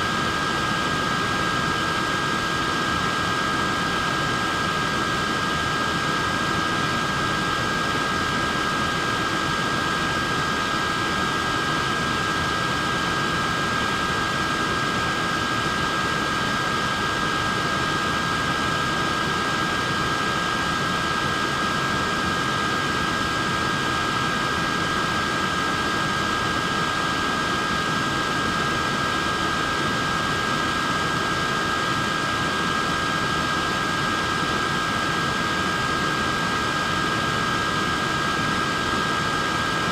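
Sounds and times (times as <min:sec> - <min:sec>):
neck fan running: 0:00.0 - 0:39.9.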